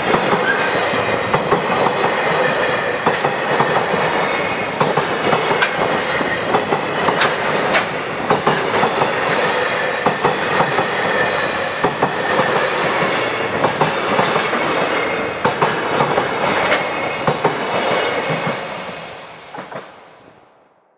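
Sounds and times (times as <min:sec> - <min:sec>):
train wheels clacking on rails: 0:00.0 - 0:20.0.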